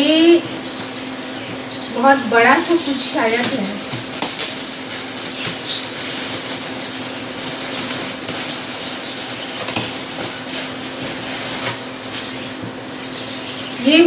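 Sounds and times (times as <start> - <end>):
foil wrap rustling and tearing: 0.4 - 13.6.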